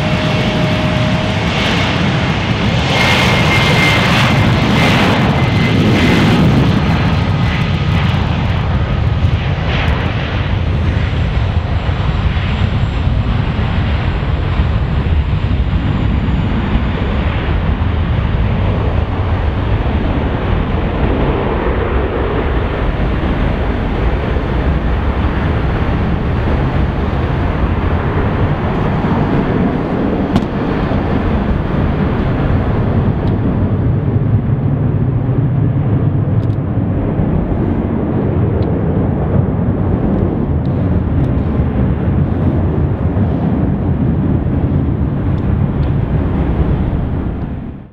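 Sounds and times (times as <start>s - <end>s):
distant jet engines roaring: 0.0s - 47.9s.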